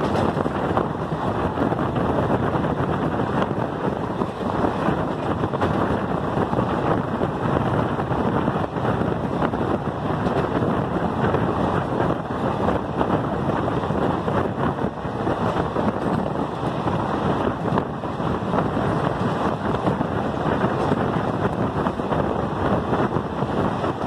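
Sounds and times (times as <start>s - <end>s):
train rumbling on rails: 0.0s - 24.0s
wind buffeting microphone: 0.0s - 24.0s.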